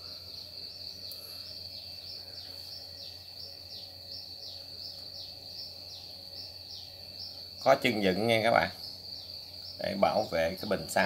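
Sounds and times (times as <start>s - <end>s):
cricket trilling: 0.0s - 11.0s
faint low hum: 0.0s - 11.0s.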